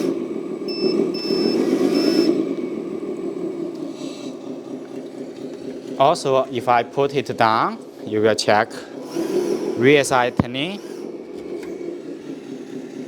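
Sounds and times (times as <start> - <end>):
electric motor and gears whirring: 0.0 - 13.0.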